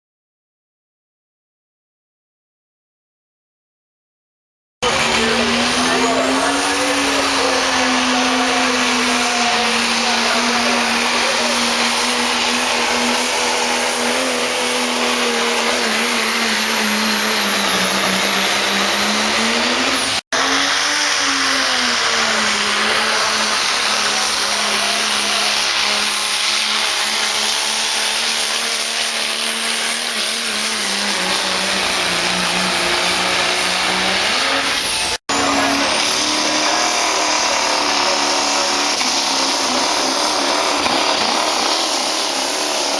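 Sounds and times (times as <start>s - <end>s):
truck engine at high revs: 4.8s - 42.9s.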